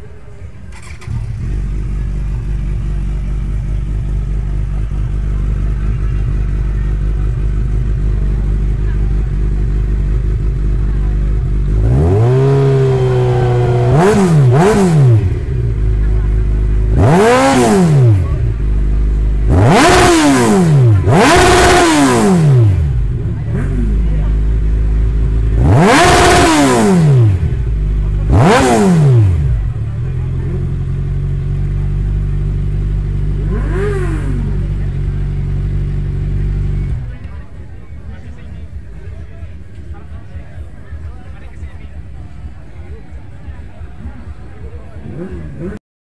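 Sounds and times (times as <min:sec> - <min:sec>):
motorcycle engine running steadily: 0:00.0 - 0:45.8.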